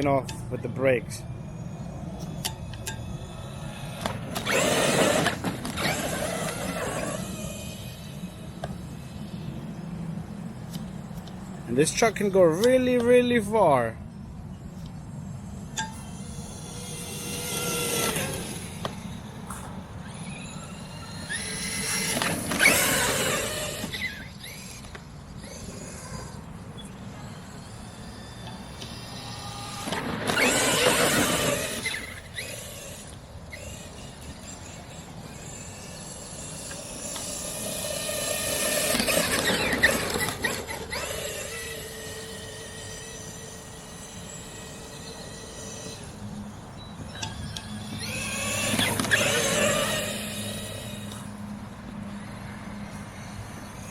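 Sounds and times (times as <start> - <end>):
rc truck drivetrain whine: 0.0 - 53.9.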